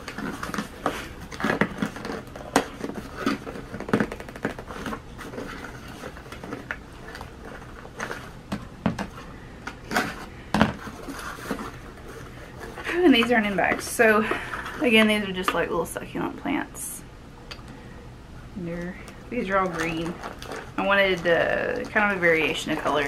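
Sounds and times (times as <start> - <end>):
packaging rustling: 0.0 - 15.4, 19.0 - 23.0.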